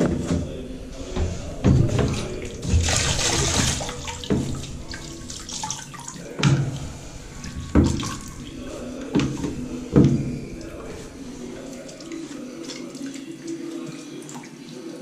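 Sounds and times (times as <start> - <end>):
water sloshing in bucket: 0.0 - 15.0.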